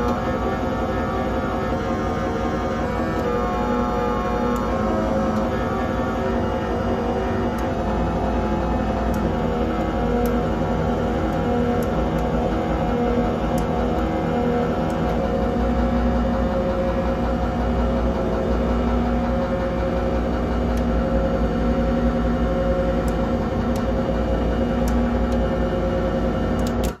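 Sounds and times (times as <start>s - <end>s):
noisy synthesizer drone: 0.0s - 27.0s.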